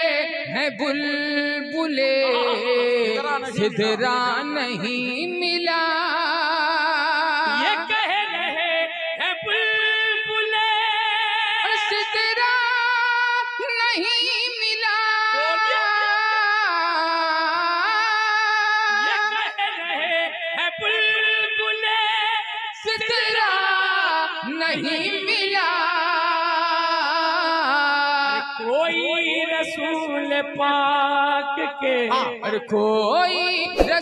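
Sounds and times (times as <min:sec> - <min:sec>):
man singing through microphone: 0:00.0 - 0:34.0.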